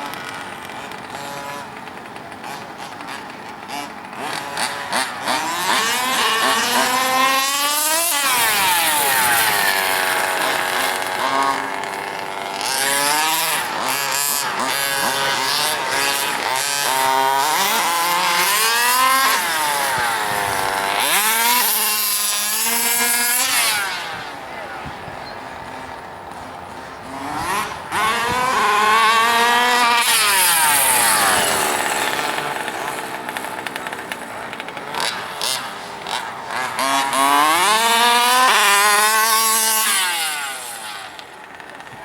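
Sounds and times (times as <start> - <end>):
radio-controlled car engines revving: 0.0 - 42.0.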